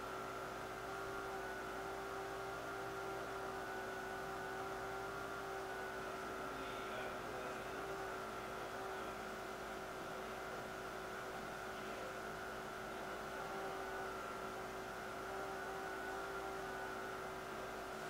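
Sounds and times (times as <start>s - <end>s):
faint machine hum: 0.0s - 18.0s.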